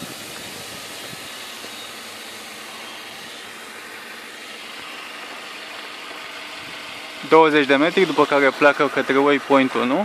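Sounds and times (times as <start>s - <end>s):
drone rotors whirring: 0.0s - 10.0s.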